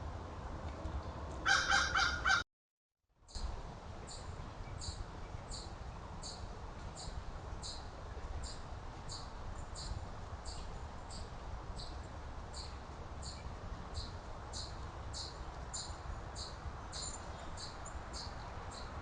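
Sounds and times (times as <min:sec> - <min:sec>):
low rumble of outdoor noise: 0:00.0 - 0:02.4, 0:03.1 - 0:19.0.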